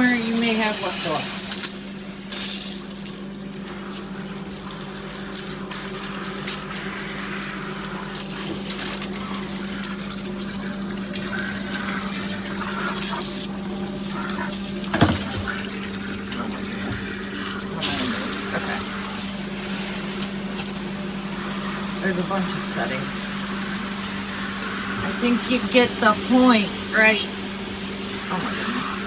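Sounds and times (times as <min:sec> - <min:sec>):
shower head spraying water: 0:00.0 - 0:29.0.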